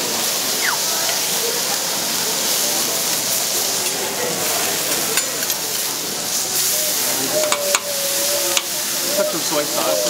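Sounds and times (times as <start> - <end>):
meat sizzling on a griddle: 0.0 - 10.0.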